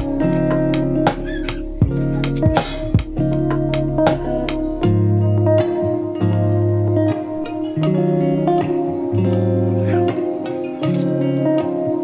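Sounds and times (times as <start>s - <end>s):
guitar over bass: 0.0s - 12.0s.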